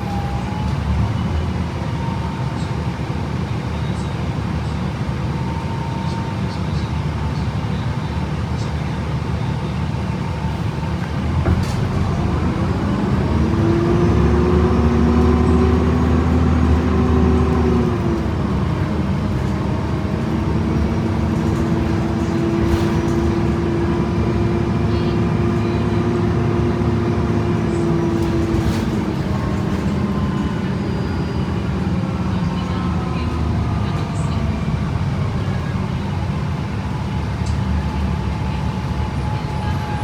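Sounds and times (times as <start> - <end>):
bus transmission whining: 0.0 - 40.0.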